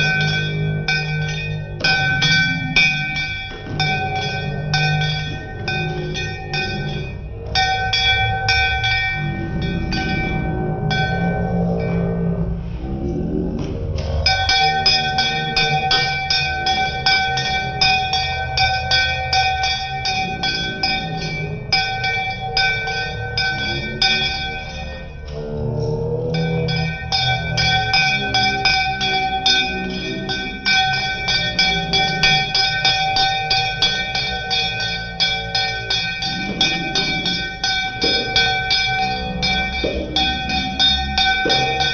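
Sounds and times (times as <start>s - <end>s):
hand bell ringing rapidly: 0.0s - 11.4s, 14.3s - 25.3s, 26.4s - 41.9s.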